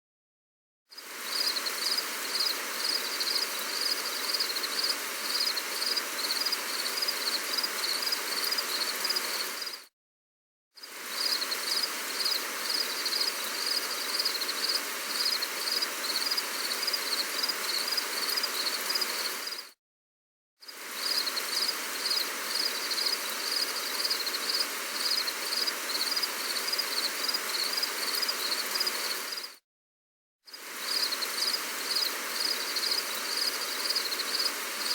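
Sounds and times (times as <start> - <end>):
gentle rain hiss: 0.9 - 9.9, 10.8 - 19.8, 20.7 - 29.6, 30.5 - 34.9.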